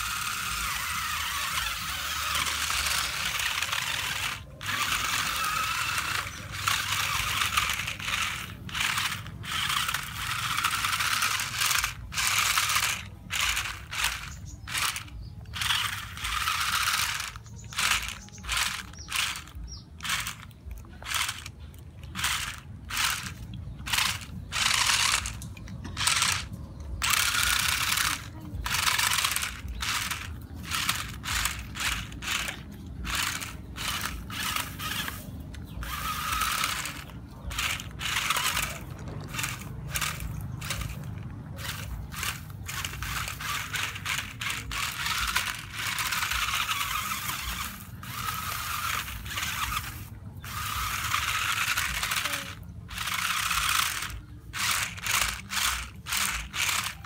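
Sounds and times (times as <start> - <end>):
toy car motors whirring: 0.0 - 57.0.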